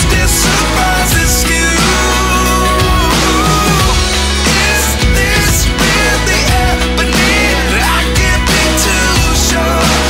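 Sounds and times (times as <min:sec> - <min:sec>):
pop song with drums: 0:00.0 - 0:10.0.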